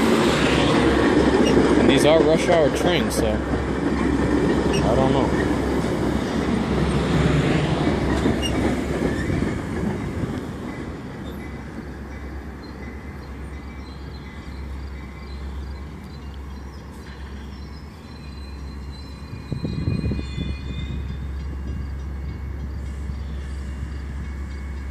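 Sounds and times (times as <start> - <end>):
train running on rails: 0.0 - 24.9.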